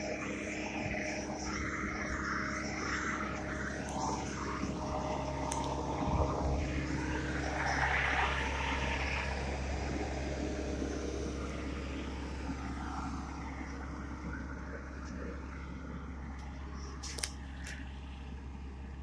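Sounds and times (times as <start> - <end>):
diesel roller engine droning: 0.0 - 19.0.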